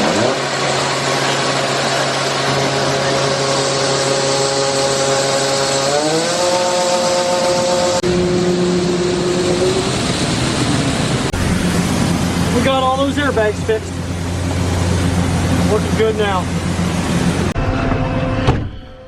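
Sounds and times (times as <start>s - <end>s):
combine harvester whine: 0.0s - 19.0s.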